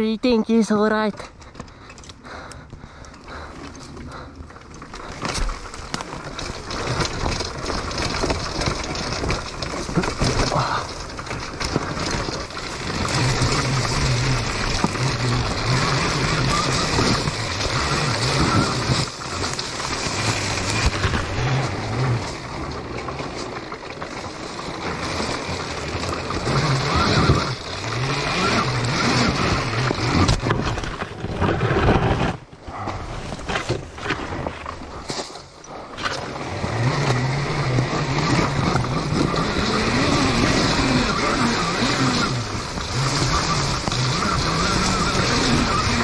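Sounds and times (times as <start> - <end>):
dirt bike riding noise: 0.0 - 46.0.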